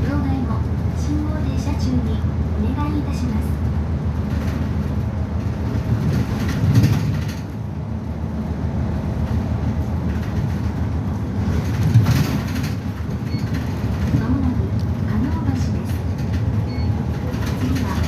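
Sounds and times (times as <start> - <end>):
bus engine and road noise: 0.0 - 18.0
bus jolts: 0.0 - 18.0.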